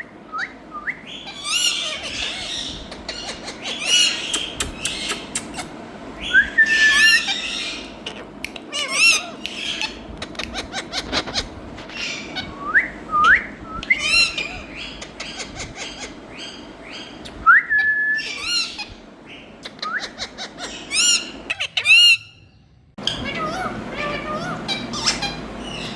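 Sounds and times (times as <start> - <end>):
parakeet squawks and whistles: 0.0 - 25.9.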